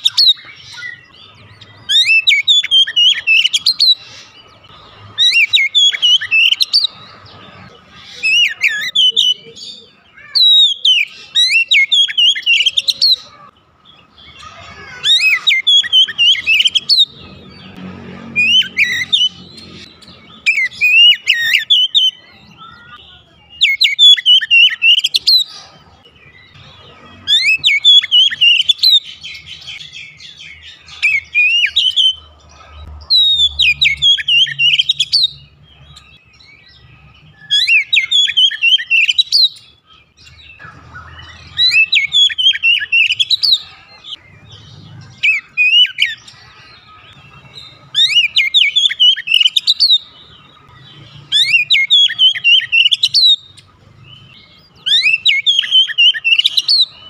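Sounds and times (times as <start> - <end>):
songbird whistling phrases: 0.0 - 7.0, 8.0 - 17.2, 18.4 - 32.2, 33.1 - 44.2, 45.1 - 50.1, 51.3 - 53.6, 54.2 - 57.0.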